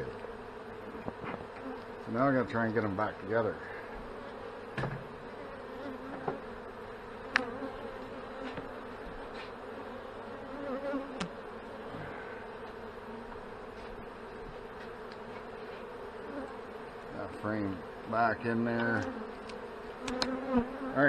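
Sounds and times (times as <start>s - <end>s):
honey bees humming: 0.0s - 21.0s.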